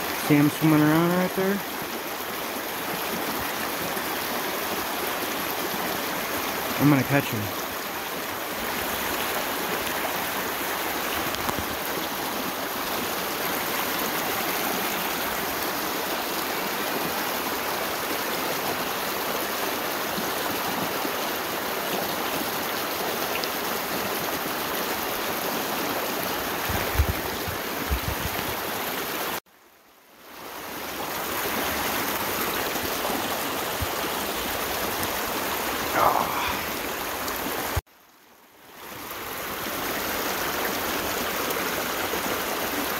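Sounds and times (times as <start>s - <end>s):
creek running over rocks: 0.0s - 42.9s.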